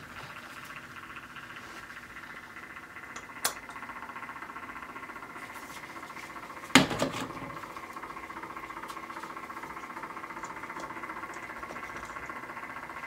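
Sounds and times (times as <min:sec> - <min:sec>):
small electric motor running: 0:00.0 - 0:13.0.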